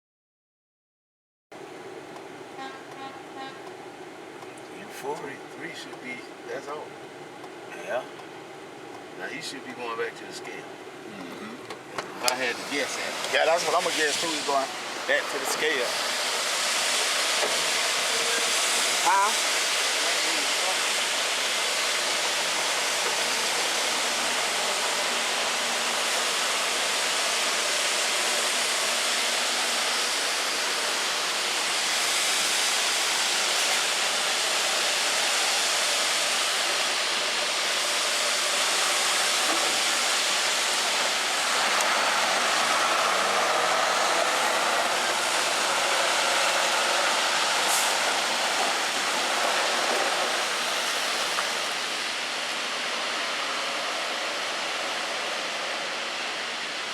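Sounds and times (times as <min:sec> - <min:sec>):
mill machinery rushing: 0:01.6 - 0:56.9.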